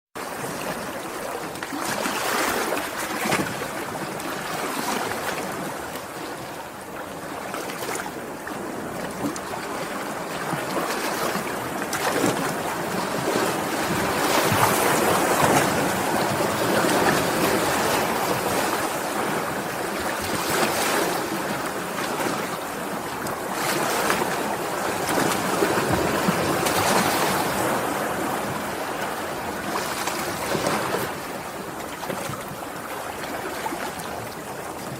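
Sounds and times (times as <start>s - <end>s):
wind: 0.1s - 34.9s
sea waves breaking: 0.2s - 34.9s.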